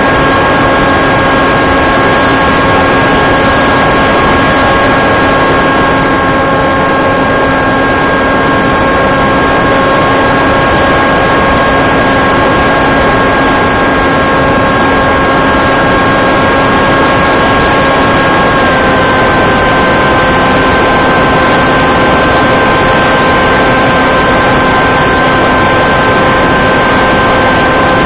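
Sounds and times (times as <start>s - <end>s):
aircraft motor drone: 0.0s - 28.0s
constant whining tones: 0.0s - 28.0s
rushing airflow: 0.0s - 28.0s.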